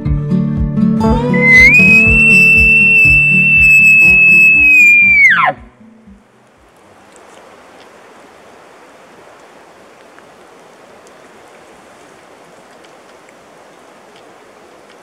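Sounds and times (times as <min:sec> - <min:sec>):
light rain hissing: 0:01.5 - 0:05.2, 0:06.3 - 0:15.0.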